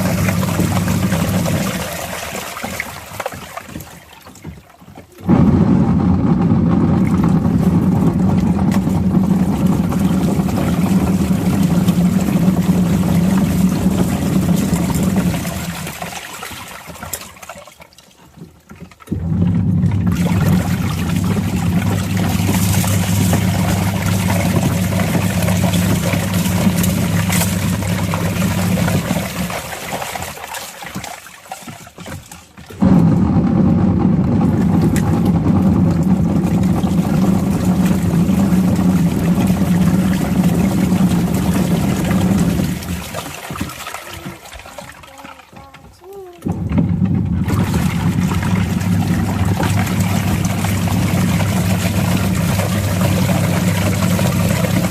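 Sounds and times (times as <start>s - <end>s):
washing machine motor hum: 0.0s - 54.9s
water churning in washing machine: 0.0s - 54.9s.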